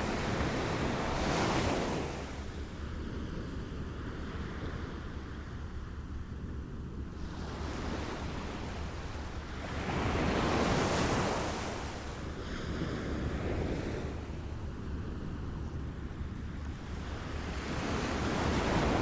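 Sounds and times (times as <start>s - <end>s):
low rumble of water and wind: 0.0s - 19.0s.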